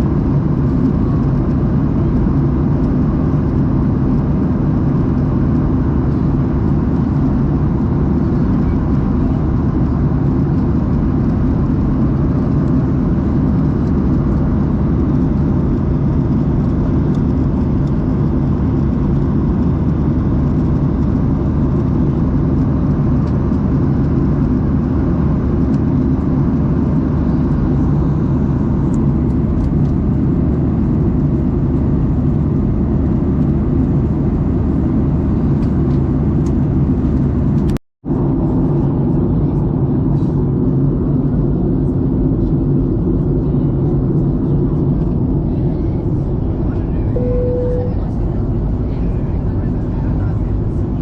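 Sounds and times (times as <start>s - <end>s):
airplane cabin drone: 0.0s - 51.0s.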